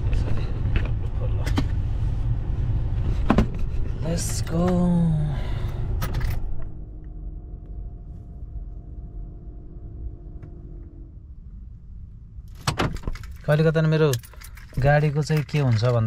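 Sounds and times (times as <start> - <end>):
low hum under car hood: 0.0 - 16.0.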